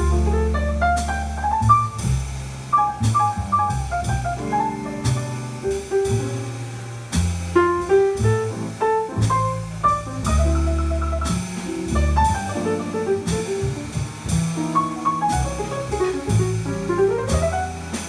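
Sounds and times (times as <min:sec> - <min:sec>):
drums: 0:00.0 - 0:18.0
jazz piano: 0:00.0 - 0:18.0
upright double bass: 0:00.0 - 0:18.0.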